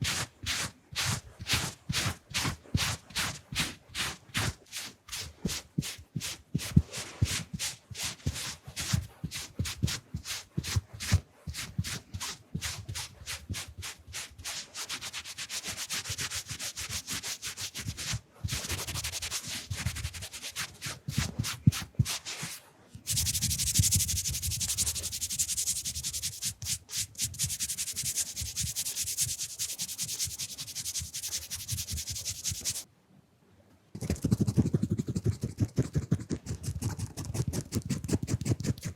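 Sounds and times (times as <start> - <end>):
wiping and rubbing strokes: 0.0 - 32.9.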